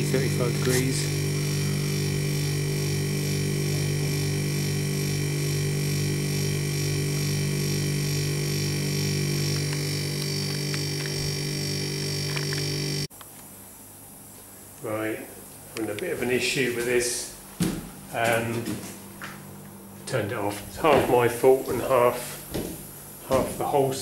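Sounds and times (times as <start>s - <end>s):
refrigeration unit humming: 0.0s - 24.0s.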